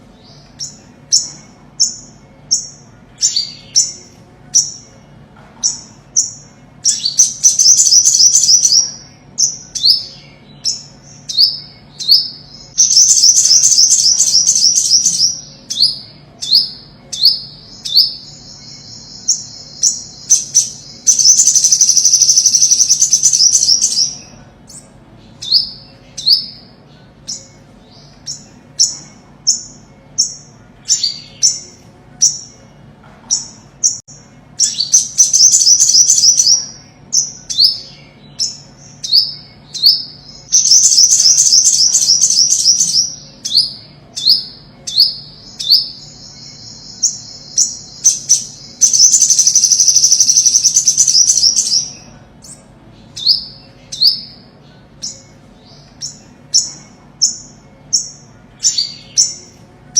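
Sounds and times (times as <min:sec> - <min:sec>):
fast twittering bird trills: 0:05.6 - 0:32.6, 0:33.3 - 0:59.5.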